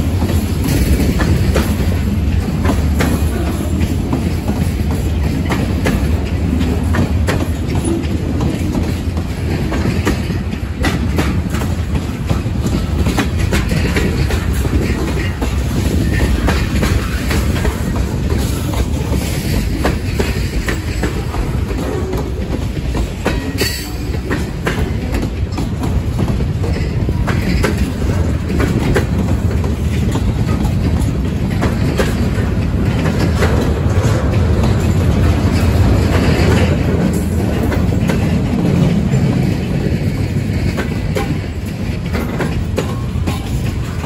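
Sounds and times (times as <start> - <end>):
freight train rumbling: 0.0 - 44.0
wheels clicking over rail joints: 0.0 - 44.0.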